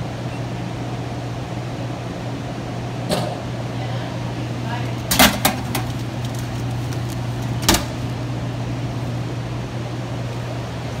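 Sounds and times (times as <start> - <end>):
vending machine hum: 0.0 - 11.0.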